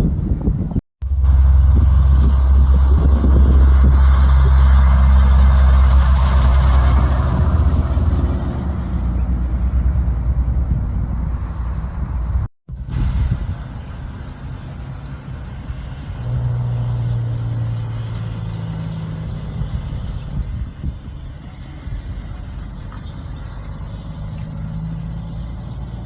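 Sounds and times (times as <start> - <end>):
traffic noise: 0.0 - 26.0
heavy truck driving past: 1.0 - 26.0.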